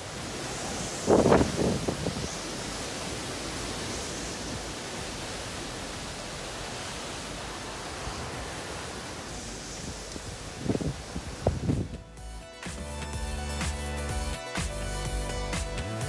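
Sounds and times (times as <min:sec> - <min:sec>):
strong wind through trees: 0:00.0 - 0:16.0.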